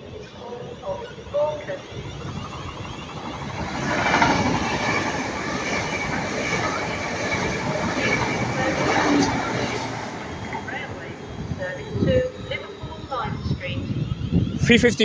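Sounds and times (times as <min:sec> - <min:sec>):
train wheels on rails: 0:00.0 - 0:14.3
train wheel squeal: 0:00.3 - 0:14.5.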